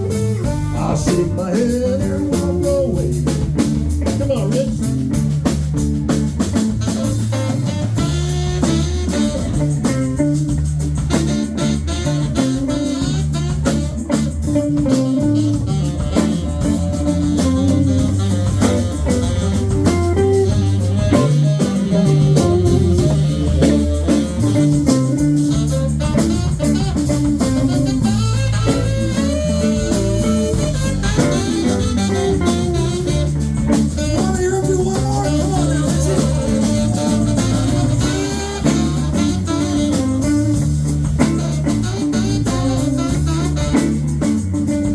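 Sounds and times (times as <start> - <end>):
bass guitar: 0.0 - 44.9
drum kit playing: 0.0 - 44.9
electric guitar playing: 0.0 - 44.9.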